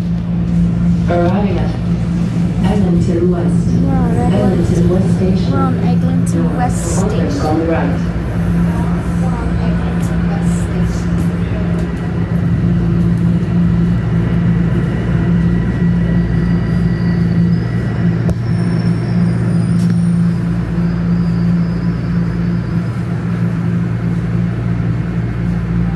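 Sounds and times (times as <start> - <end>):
subway car rumble and hum: 0.0 - 25.9.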